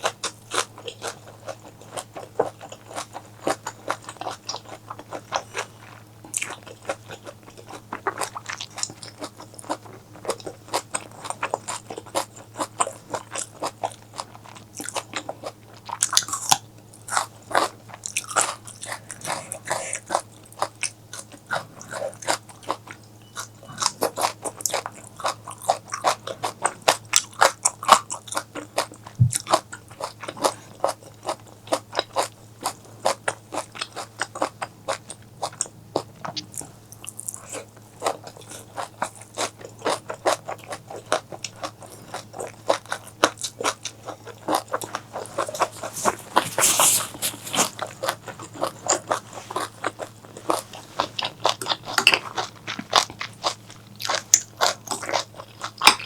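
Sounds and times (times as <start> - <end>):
faint low hum: 0.0 - 56.0
person chewing crunchy food: 0.0 - 56.0.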